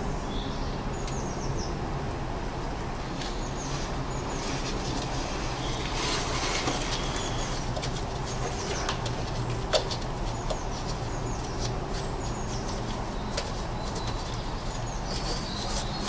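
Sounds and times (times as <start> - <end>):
small birds chirping: 0.0 - 1.8, 3.1 - 16.0.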